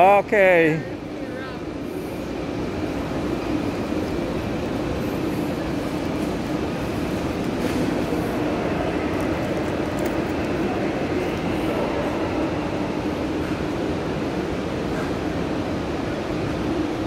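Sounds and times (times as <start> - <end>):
train rumbling in echoing hall: 0.0 - 17.0.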